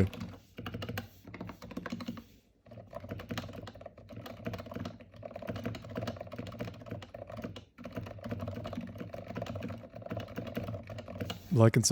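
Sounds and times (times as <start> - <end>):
quiet damped keyboard typing: 0.0 - 11.9.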